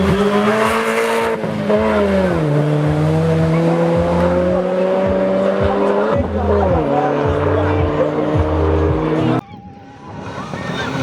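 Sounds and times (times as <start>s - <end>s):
rally car engine at high revs: 0.0s - 9.4s.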